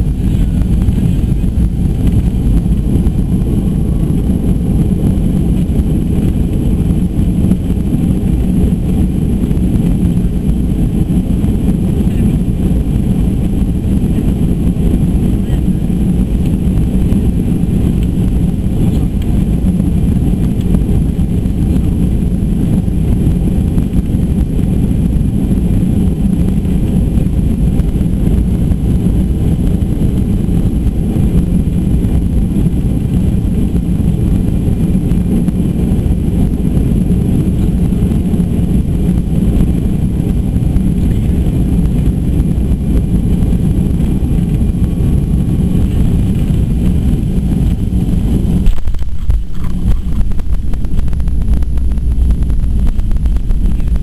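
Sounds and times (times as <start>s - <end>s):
jet engine cabin roar: 0.0s - 54.0s
rushing airflow: 0.0s - 54.0s.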